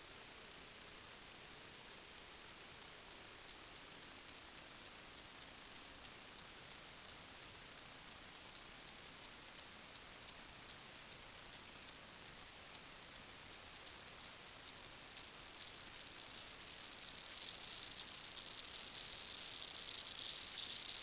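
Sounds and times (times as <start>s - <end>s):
faint irregular ticks: 0.0s - 21.0s
high-pitched electronic whine: 0.0s - 21.0s.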